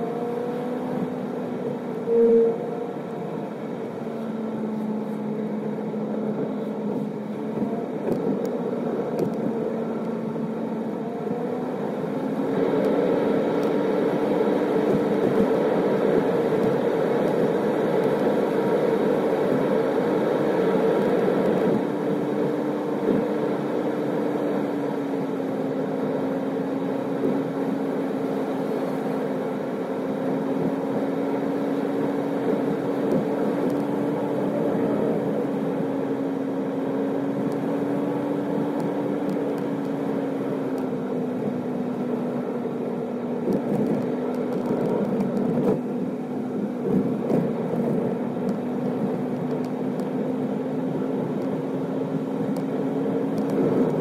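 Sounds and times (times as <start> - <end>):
car engine hum: 0.0 - 54.0
road noise: 0.0 - 54.0.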